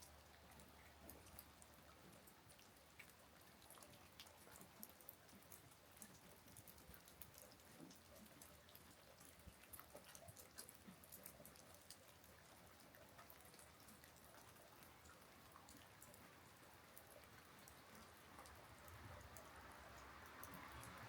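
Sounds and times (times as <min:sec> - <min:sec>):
raindrops ticking: 0:00.0 - 0:21.0
soft rain hiss: 0:00.0 - 0:21.0.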